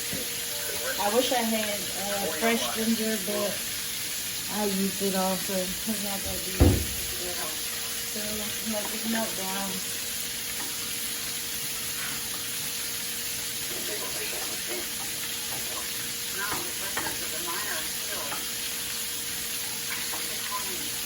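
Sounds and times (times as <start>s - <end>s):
butter sizzling in a pan: 0.0s - 21.0s.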